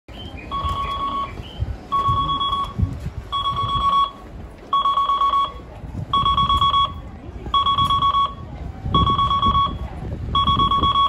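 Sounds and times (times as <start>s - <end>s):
electronic warning beeps: 0.2s - 11.0s.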